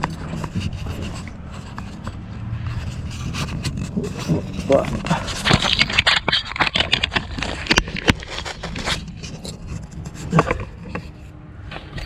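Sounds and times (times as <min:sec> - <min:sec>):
scraping: 0:00.0 - 0:12.0
sharp clicks and knocks: 0:00.0 - 0:12.0.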